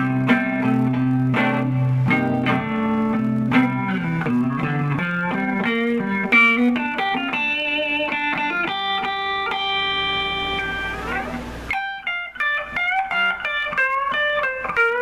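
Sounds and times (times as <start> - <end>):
electric guitar through amplifier: 0.0 - 15.0.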